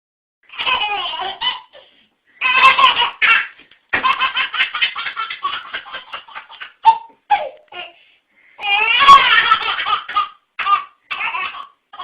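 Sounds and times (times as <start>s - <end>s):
baby laughing: 0.5s - 8.0s, 8.6s - 12.0s.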